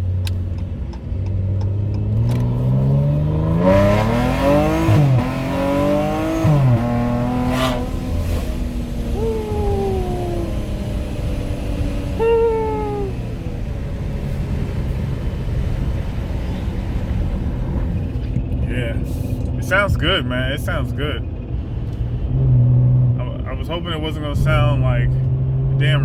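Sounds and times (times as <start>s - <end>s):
car exhaust accelerating: 0.0s - 26.0s.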